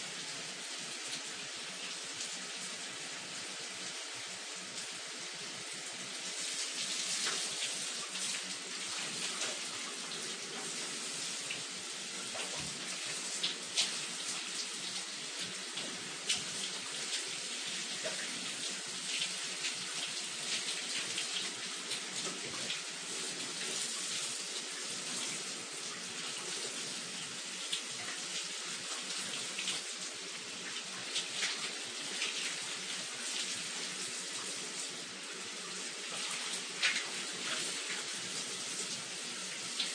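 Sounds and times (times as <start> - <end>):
shower water spraying: 0.0 - 39.9.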